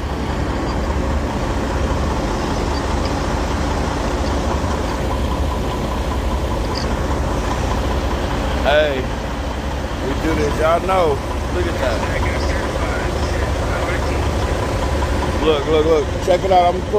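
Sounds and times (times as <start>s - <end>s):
diesel truck engines idling: 0.0s - 16.9s.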